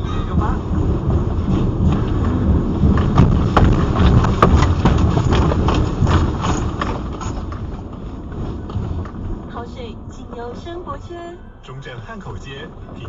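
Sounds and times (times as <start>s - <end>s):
car rattling and knocking: 0.0s - 10.7s
low rumble: 0.0s - 13.0s.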